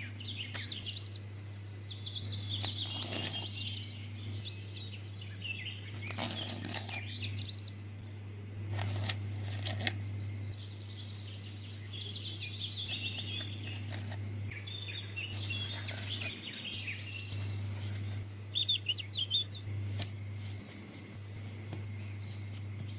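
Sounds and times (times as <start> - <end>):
songbirds chirping and trilling: 0.0 - 22.9
steady low hum: 0.0 - 22.9.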